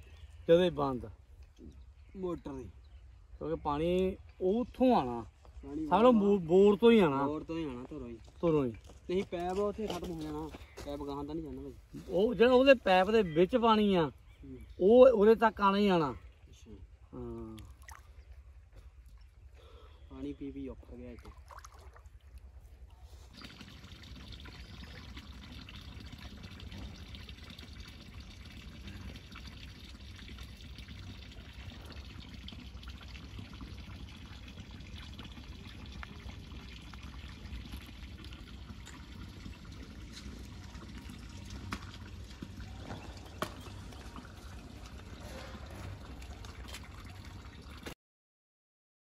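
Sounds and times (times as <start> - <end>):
water flowing along a channel: 0.0 - 48.0.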